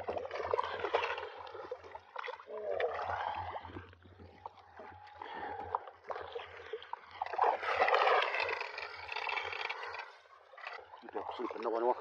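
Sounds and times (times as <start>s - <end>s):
lake water lapping and splashing: 0.0s - 12.0s.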